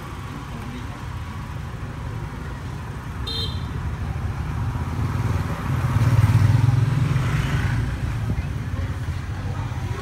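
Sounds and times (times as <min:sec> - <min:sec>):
scooter traffic: 0:00.0 - 0:10.0.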